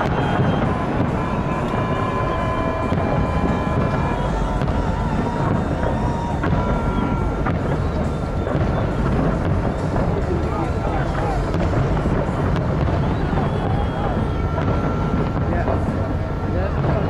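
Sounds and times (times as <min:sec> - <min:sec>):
outdoor crowd chatter: 0:00.0 - 0:17.0.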